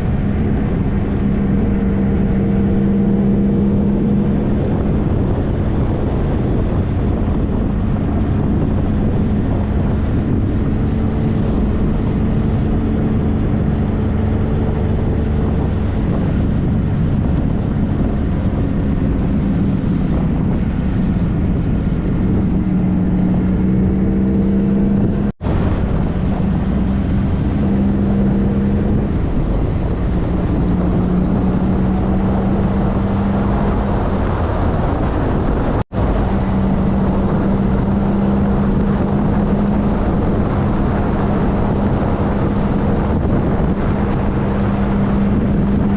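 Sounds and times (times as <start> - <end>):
motorcycle engine cruising: 0.0 - 45.9
wind rush on microphone: 0.0 - 45.9.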